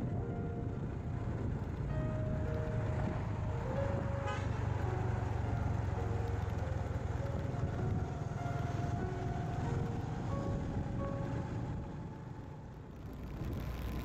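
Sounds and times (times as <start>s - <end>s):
background music melody: 0.0s - 14.0s
motorcycle engine and road noise: 0.0s - 14.0s.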